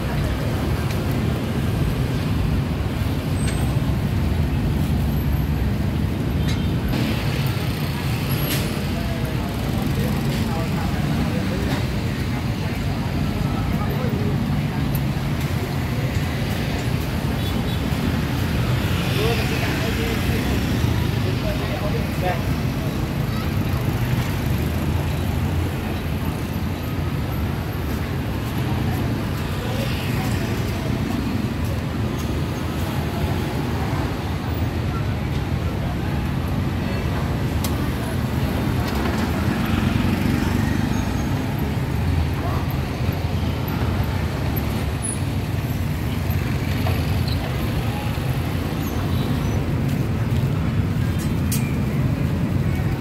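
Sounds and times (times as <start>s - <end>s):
road traffic rumble: 0.0s - 53.0s
faint voices: 7.0s - 53.0s.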